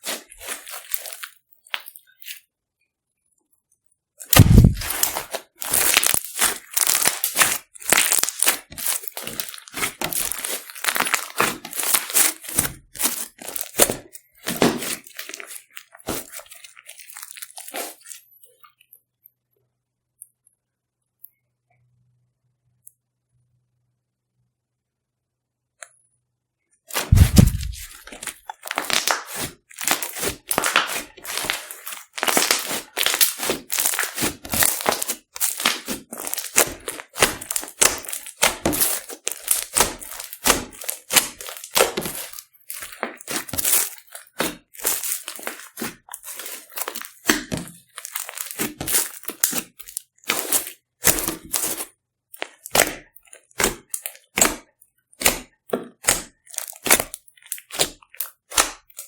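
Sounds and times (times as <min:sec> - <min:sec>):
slime crackling and popping: 0:00.0 - 0:02.4, 0:04.2 - 0:18.2, 0:26.9 - 0:59.0.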